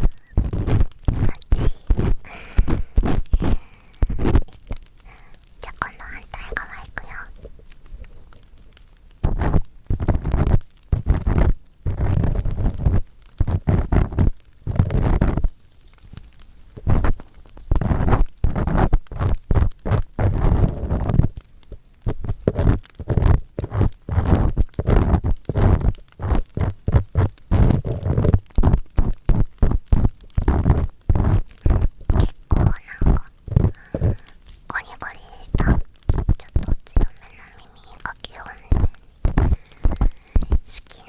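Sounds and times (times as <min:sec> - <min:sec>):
earpick scraping inside ear: 0:00.0 - 0:04.9, 0:09.2 - 0:15.5, 0:16.8 - 0:21.3, 0:22.1 - 0:41.0.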